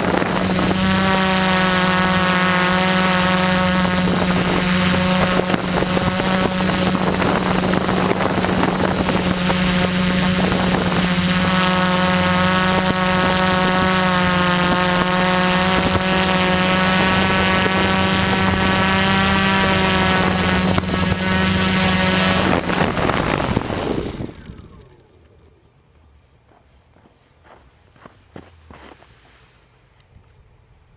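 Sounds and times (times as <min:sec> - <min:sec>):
quadcopter motors humming: 0:00.0 - 0:26.1
engine-like tone: 0:00.0 - 0:26.4.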